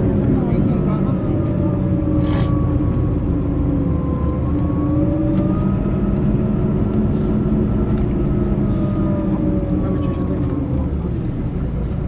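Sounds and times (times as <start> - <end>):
coach diesel engine drone: 0.0 - 12.0.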